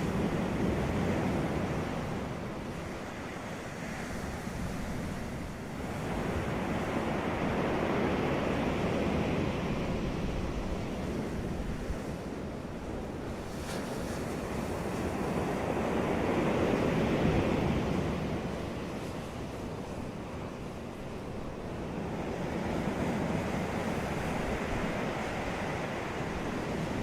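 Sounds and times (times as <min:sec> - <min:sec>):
waves breaking on shore: 0:00.0 - 0:27.0
wind noise on microphone: 0:00.0 - 0:27.0.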